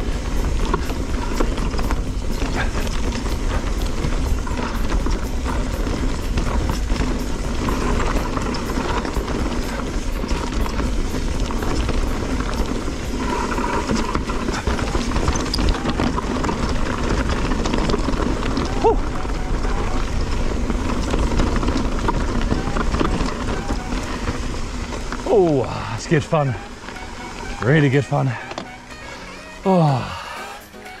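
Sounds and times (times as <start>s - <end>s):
bike clicks and rattles: 0.0s - 29.7s
tyres rushing on dirt trail: 0.0s - 31.0s
wind: 0.0s - 31.0s.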